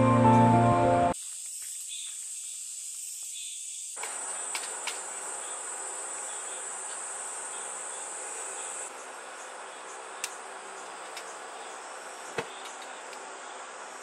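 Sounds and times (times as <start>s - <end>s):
insects chirring: 1.2s - 14.0s
outdoor background hiss: 1.2s - 14.0s.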